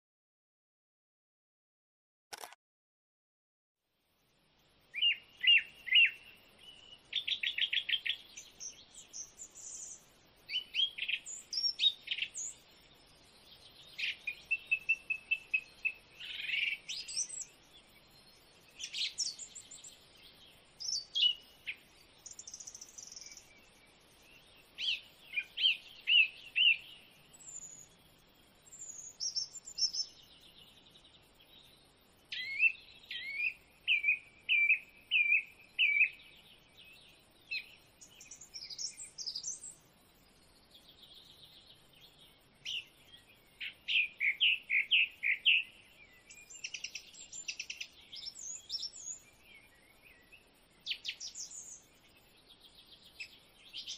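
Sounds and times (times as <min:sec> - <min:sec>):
songbirds singing: 0:04.2 - 0:53.9.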